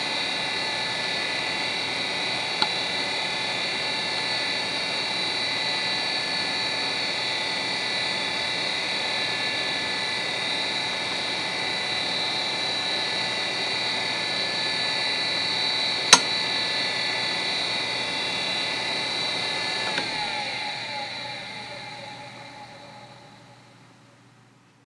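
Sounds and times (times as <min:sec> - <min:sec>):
hard drive whine and hiss: 0:00.0 - 0:24.8.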